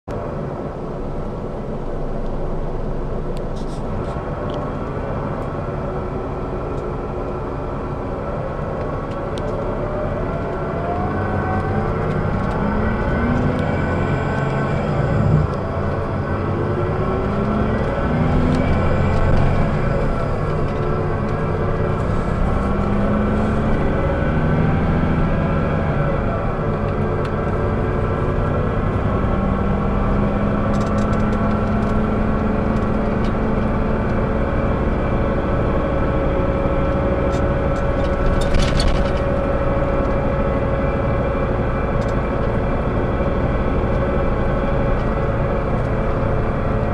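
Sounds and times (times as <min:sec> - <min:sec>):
bus diesel engine accelerating: 0:00.1 - 0:46.9.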